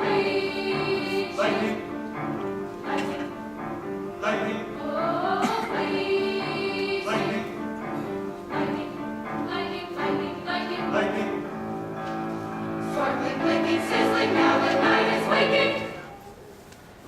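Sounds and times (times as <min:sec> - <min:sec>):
choir singing sustained chords: 0:00.0 - 0:16.3.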